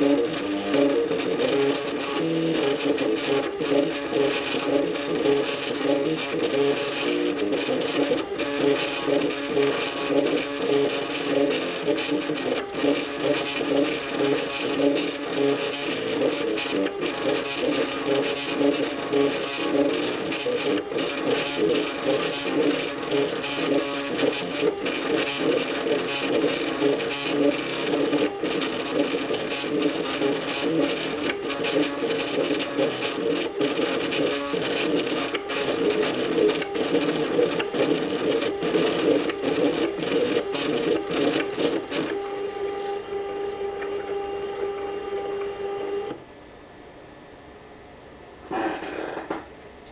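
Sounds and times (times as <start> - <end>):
stepper motors whining: 0.0 - 45.4.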